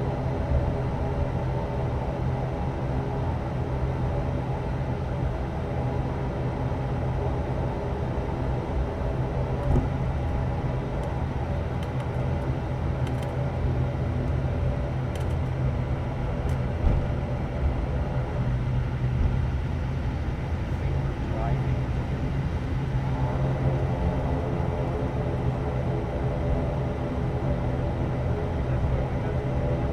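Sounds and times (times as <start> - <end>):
turboprop engines humming: 0.0 - 29.9.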